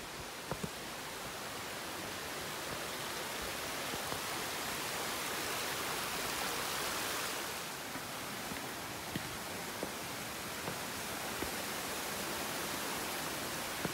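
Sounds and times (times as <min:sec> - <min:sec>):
stream water rushing: 0:00.0 - 0:13.9.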